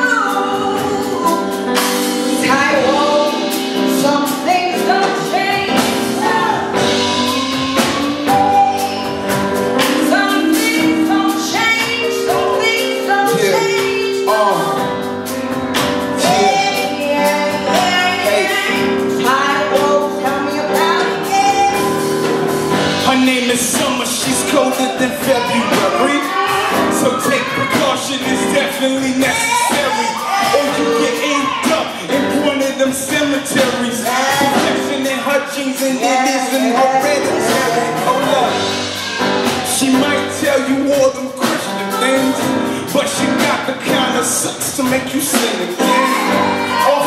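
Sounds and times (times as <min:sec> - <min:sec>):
woman and man singing: 0:00.0 - 0:15.1, 0:16.1 - 0:22.4, 0:23.0 - 0:47.0
band playing: 0:00.0 - 0:47.0
drum kit and cymbals: 0:00.0 - 0:47.0.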